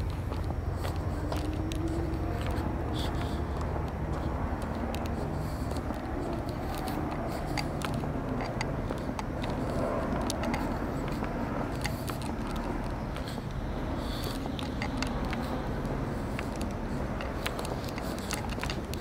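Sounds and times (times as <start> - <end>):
footsteps: 0.0 - 19.0
steady low rumble: 0.0 - 19.0.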